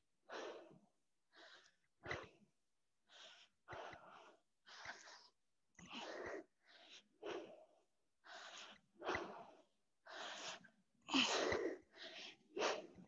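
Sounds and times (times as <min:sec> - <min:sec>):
woman breathing hard: 0:00.3 - 0:02.4, 0:03.0 - 0:13.0.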